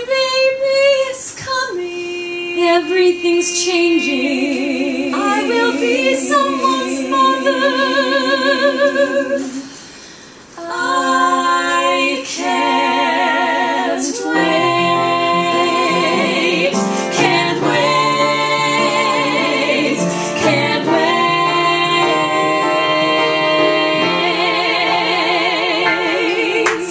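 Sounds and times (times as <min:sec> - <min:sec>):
women singing in harmony: 0:00.0 - 0:26.9.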